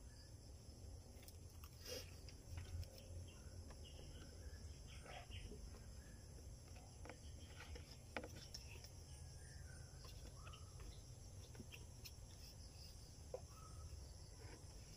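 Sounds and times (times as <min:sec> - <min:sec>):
faint bird chirps: 0:00.0 - 0:00.8, 0:01.8 - 0:14.9.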